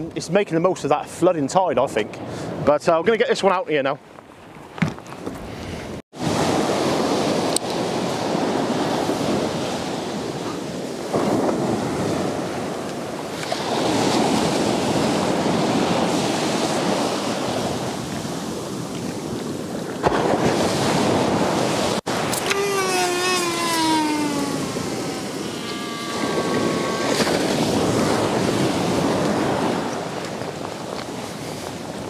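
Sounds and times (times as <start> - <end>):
waves breaking on beach: 6.2 - 32.0.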